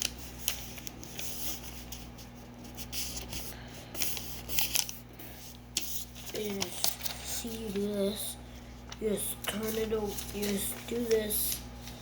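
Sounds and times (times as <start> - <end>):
paper rustling and crinkling: 0.0 - 8.2, 8.8 - 12.0.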